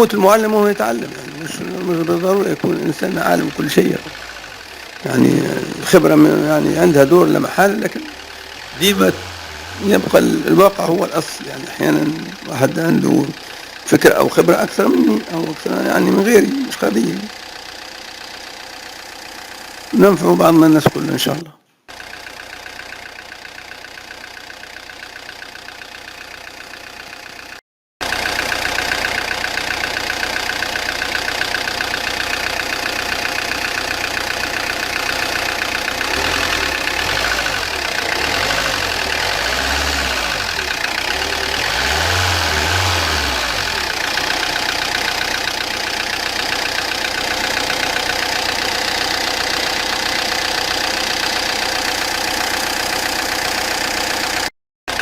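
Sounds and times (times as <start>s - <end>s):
diesel engine knocking clatter: 0.0s - 55.0s.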